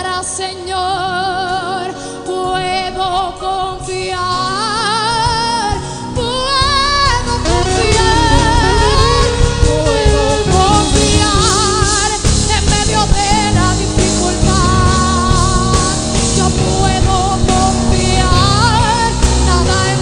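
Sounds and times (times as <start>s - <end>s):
woman singing with vibrato: 0.0s - 20.0s
band with drum kit: 3.0s - 20.0s.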